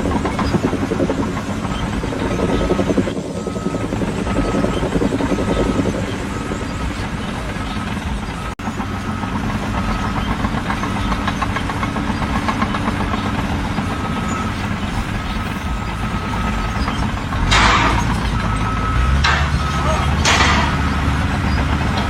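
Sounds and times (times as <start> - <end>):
heavy engine running: 0.0 - 22.0.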